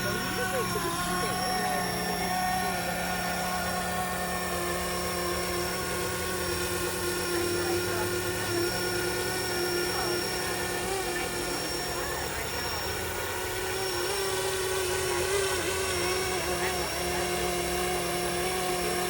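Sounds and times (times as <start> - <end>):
rc helicopter whine: 0.0 - 19.0.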